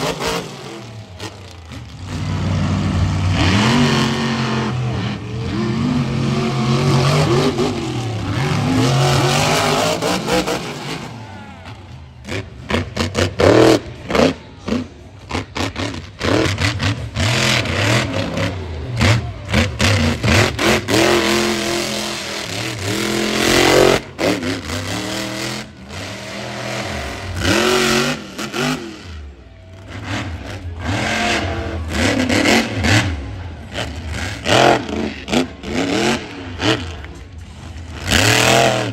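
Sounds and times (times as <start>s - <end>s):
monster truck engines revving: 0.0s - 38.9s.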